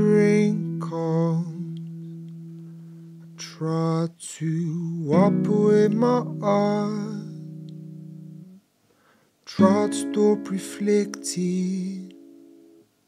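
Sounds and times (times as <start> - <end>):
acoustic guitar chords: 0.0 - 8.6, 9.5 - 12.9.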